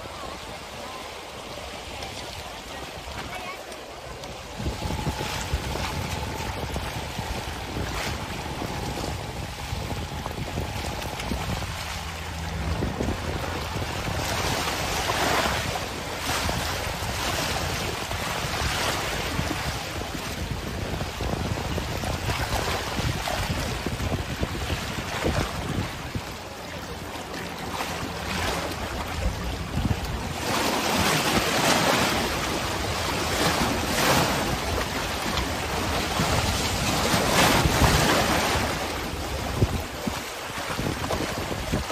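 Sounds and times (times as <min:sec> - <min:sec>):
floatplane engine running: 0:00.0 - 0:41.9
sea waves: 0:00.0 - 0:41.9
wind on microphone: 0:00.0 - 0:41.9.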